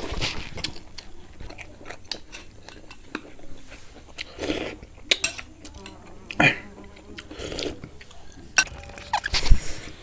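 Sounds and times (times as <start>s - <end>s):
chewing: 0.0s - 9.6s.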